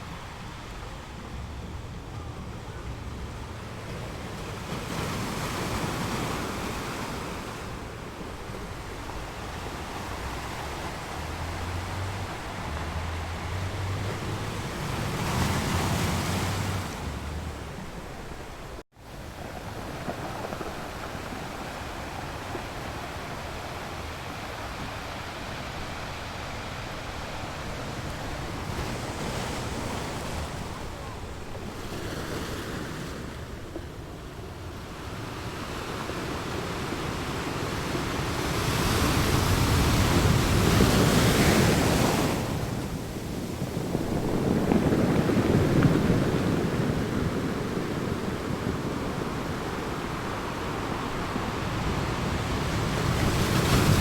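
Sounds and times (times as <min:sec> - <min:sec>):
sea waves breaking on shore: 0:00.0 - 0:54.0
wind buffeting microphone: 0:00.0 - 0:54.0.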